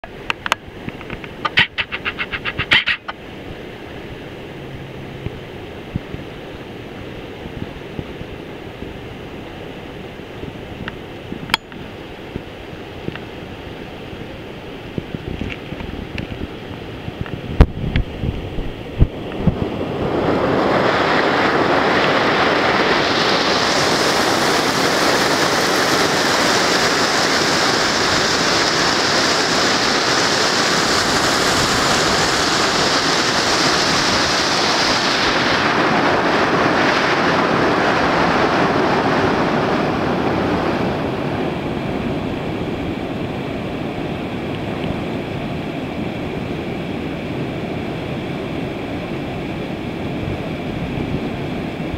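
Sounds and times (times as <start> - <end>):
whitewater rushing over rocks: 0.0 - 13.8, 19.0 - 51.9.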